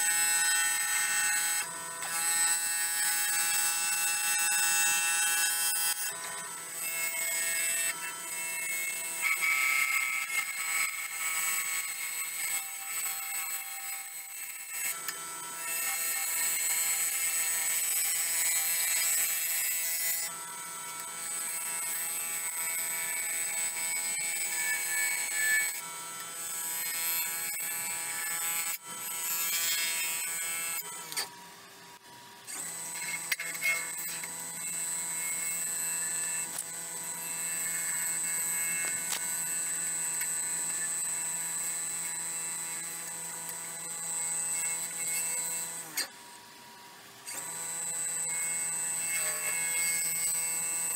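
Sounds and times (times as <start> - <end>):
wood lathe whine: 0.0 - 50.9.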